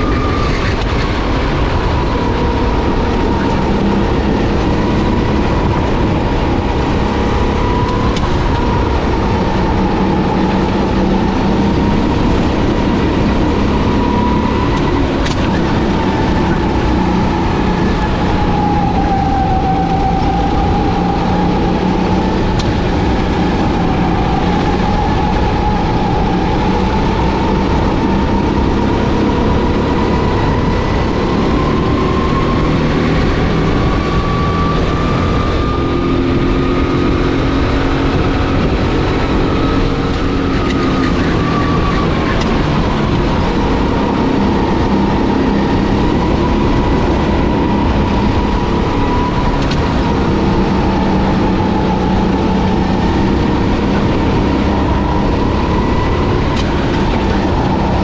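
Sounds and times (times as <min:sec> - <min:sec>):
heavy rumble: 0:00.0 - 0:58.0
kart engine running: 0:00.0 - 0:58.0.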